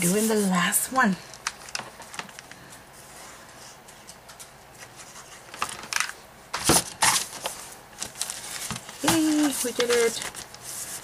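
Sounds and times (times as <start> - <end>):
paper rustling and crinkling: 1.4 - 11.0.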